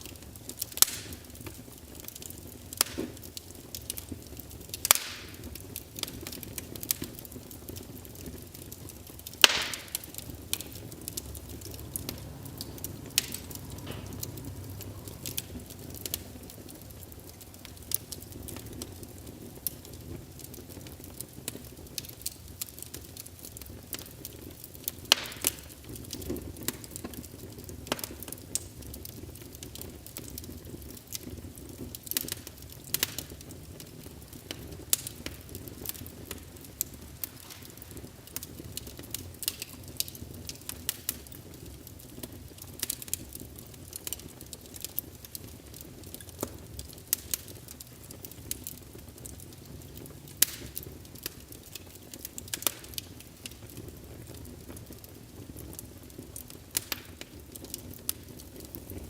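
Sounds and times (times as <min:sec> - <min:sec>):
low rumble of burning logs: 0:00.0 - 0:59.0
wood fire crackling and popping: 0:00.0 - 0:59.0.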